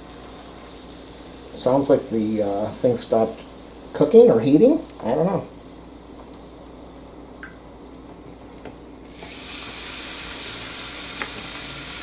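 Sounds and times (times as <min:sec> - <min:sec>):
meat sizzling on a grill: 0:00.0 - 0:07.1, 0:09.0 - 0:12.0.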